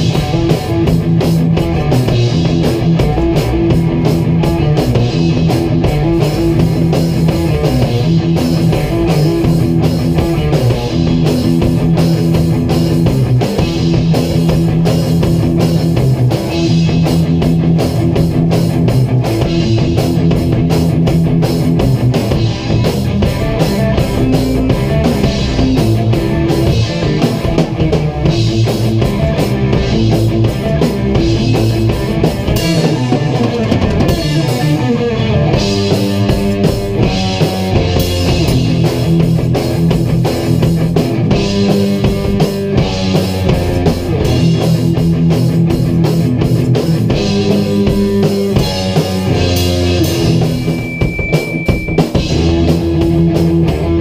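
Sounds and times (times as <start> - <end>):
amplified electric guitars: 0.0 - 54.0
band playing rock music: 0.0 - 54.0
drum kit with cymbals: 0.0 - 54.0.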